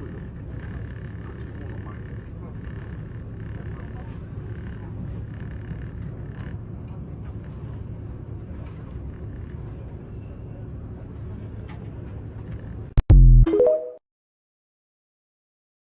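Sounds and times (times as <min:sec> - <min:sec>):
diesel railcar engine rumble: 0:00.0 - 0:12.8.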